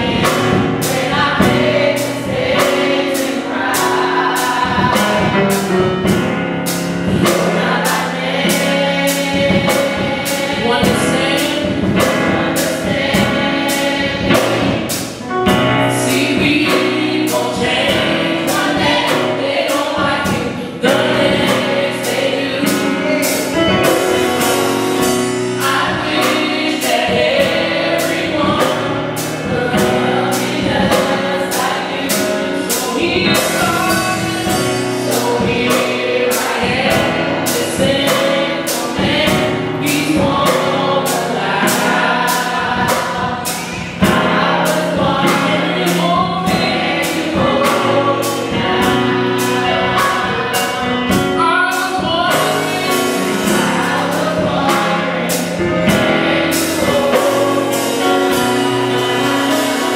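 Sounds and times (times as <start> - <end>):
choir singing in harmony: 0.0 - 59.9
keyboard accompaniment: 0.0 - 59.9
steady beat: 0.0 - 59.9.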